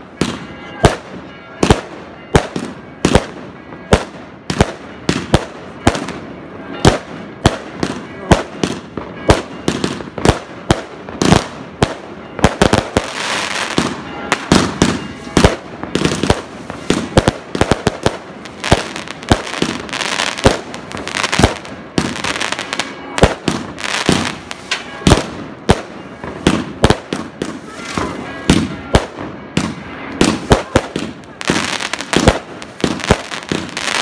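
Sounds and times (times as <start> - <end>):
fireworks crackling: 0.0 - 34.0
fireworks bangs: 0.1 - 34.0.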